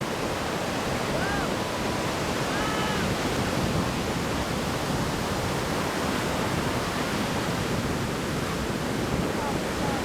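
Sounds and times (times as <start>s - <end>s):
wind: 0.0s - 10.0s
water rushing: 0.1s - 10.0s.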